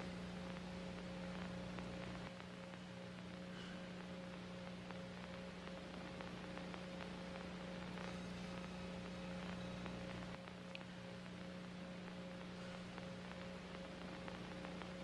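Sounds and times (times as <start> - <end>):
faint electrical hum: 0.0 - 15.0
faint ticks: 0.0 - 15.0
light hiss: 0.0 - 15.0.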